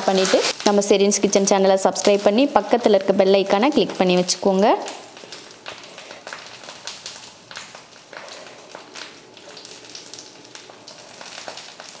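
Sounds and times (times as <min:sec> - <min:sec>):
leaf and fish crackling: 0:00.0 - 0:12.0.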